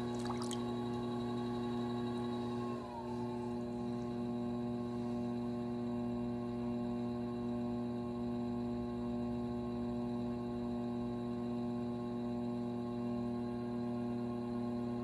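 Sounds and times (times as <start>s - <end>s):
steady hum of held tones: 0.0s - 15.0s.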